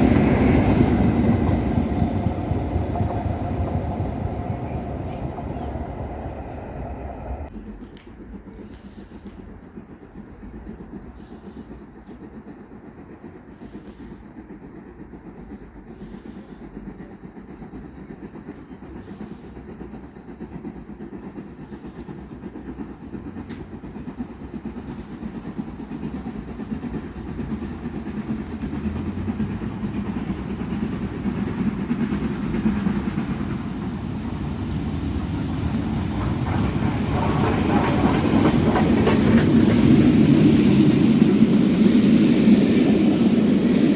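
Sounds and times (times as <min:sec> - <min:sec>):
train rumble and wheel noise: 0:00.0 - 0:43.9.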